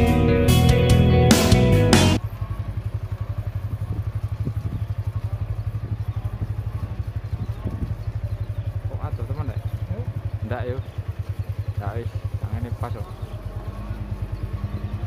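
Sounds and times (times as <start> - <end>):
vehicle engine throbbing: 0.0 - 15.0.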